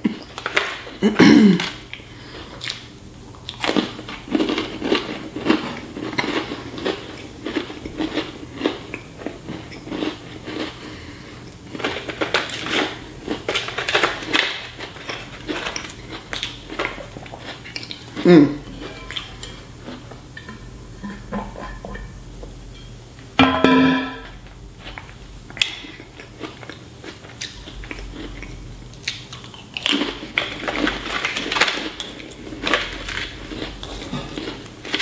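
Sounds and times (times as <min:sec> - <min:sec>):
person chewing crunchy crackers: 0:00.0 - 0:20.2, 0:24.8 - 0:35.0.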